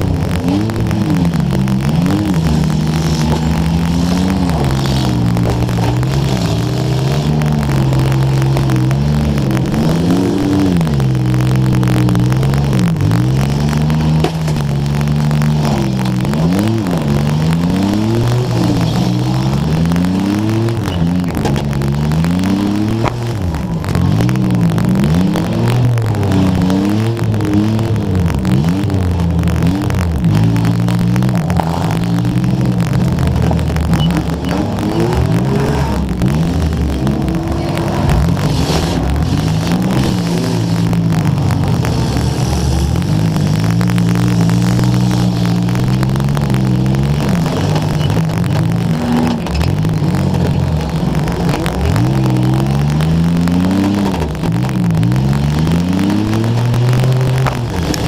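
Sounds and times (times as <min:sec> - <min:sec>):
car engine revving: 0:00.0 - 0:58.0
crackling microphone static: 0:00.0 - 0:58.0.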